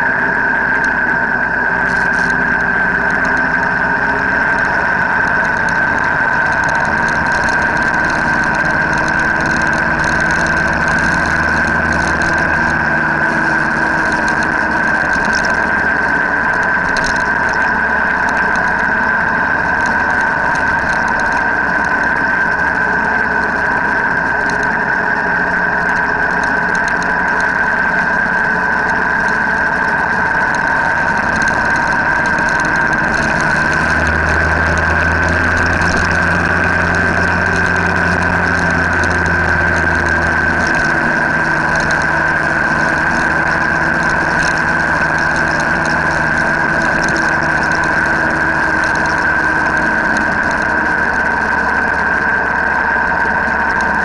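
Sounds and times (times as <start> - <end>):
deep drone: 0.0 - 54.0
high whine: 0.0 - 54.0
motorcycle engine running: 0.0 - 54.0
wind noise: 0.0 - 54.0.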